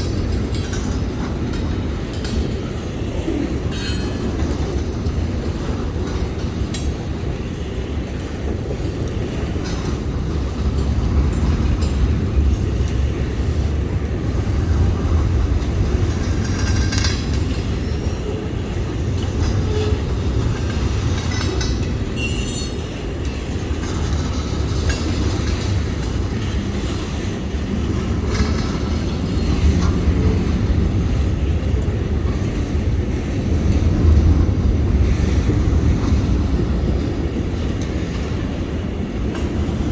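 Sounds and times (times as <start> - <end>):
freight train rumbling: 0.0 - 39.9
wheels clanking over rail joints: 0.0 - 39.9.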